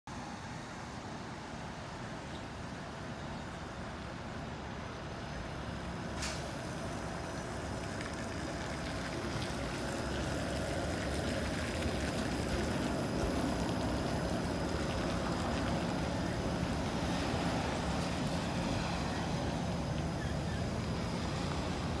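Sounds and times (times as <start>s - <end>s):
streetcar rolling on rails: 0.1s - 22.0s.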